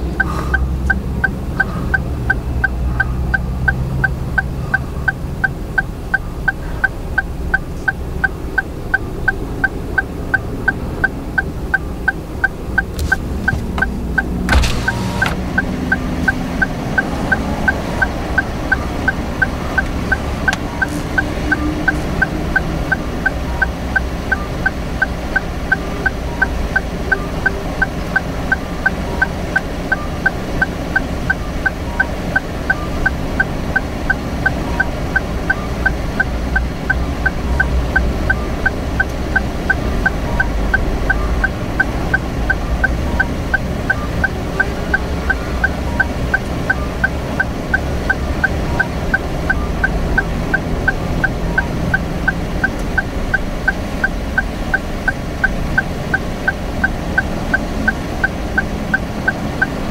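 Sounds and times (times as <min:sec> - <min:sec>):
idling car engine hum: 0:00.0 - 0:59.9
turn signal ticking: 0:00.0 - 0:59.9.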